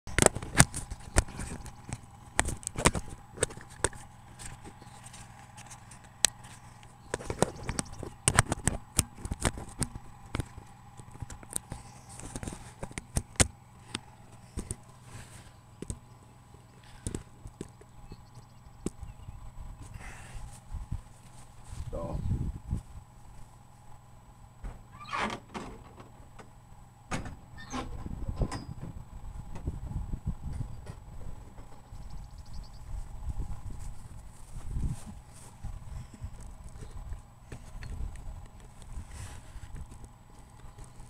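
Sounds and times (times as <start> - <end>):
faint steady hum: 0.1 - 41.0.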